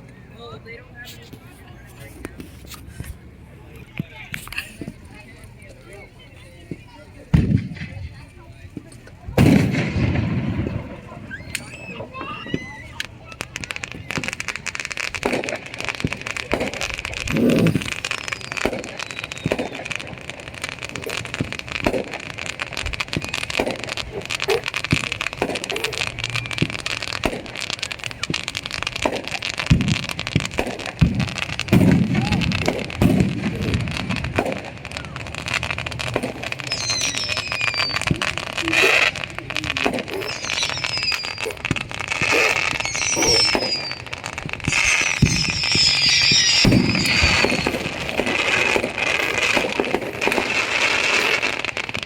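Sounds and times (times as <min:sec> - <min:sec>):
fireworks popping and crackling: 0:00.0 - 0:52.0
heavy fireworks bangs: 0:06.7 - 0:52.0.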